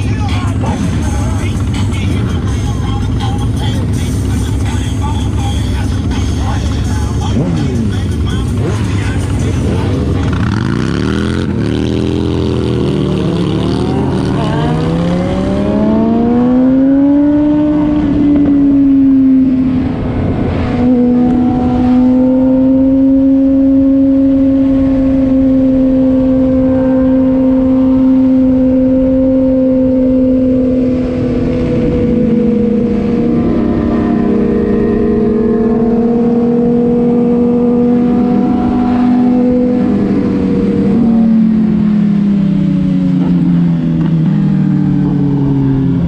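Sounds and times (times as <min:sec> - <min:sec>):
vehicle engine revving and cruising: 0:00.0 - 0:46.0.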